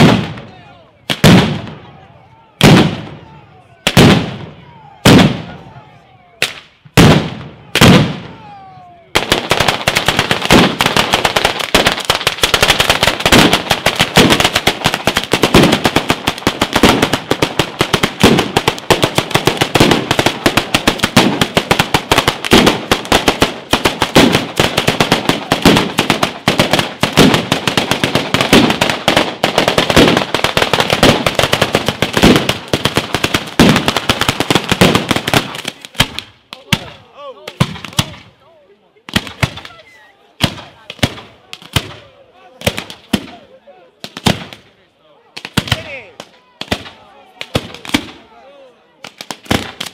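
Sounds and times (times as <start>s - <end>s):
firecracker blasts: 0.0s - 5.8s, 6.4s - 8.5s, 9.1s - 38.4s, 39.0s - 48.2s, 49.0s - 49.9s
rapid crackle of firecrackers: 1.1s - 1.9s, 2.6s - 3.2s, 3.8s - 5.6s, 6.4s - 8.4s, 9.2s - 38.4s, 39.0s - 48.3s, 49.0s - 49.9s.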